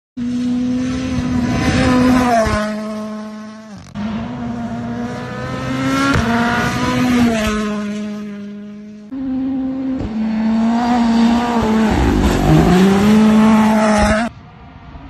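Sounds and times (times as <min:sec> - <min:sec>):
rally car engine at high revs: 0:00.2 - 0:14.3.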